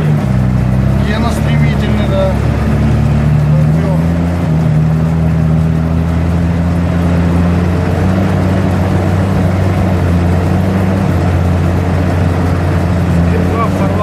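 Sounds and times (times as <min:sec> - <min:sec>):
vehicle engine running under load: 0:00.0 - 0:14.0.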